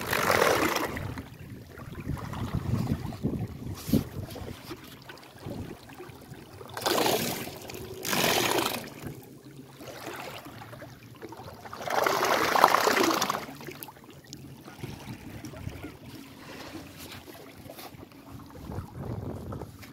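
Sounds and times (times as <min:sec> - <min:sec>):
water splashing against boat: 0:00.0 - 0:19.9.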